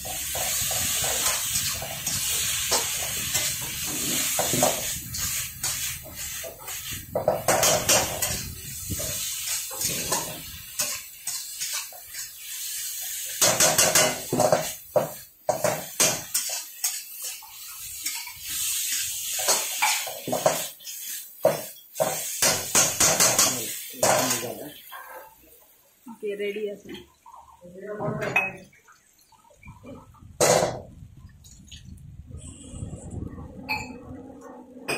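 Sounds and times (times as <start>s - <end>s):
food sizzling: 0.0s - 34.9s.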